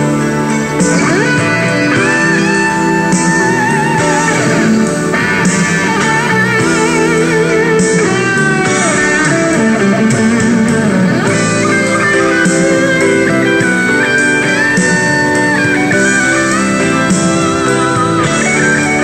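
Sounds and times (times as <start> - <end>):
guitar background music: 0.0 - 19.0.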